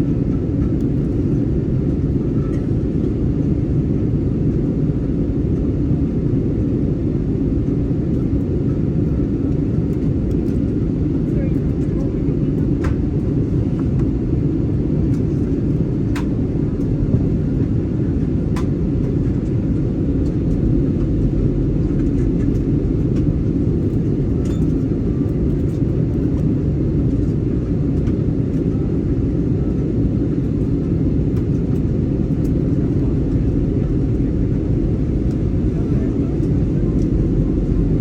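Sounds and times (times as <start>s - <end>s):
aircraft cabin engine rumble: 0.0s - 38.0s.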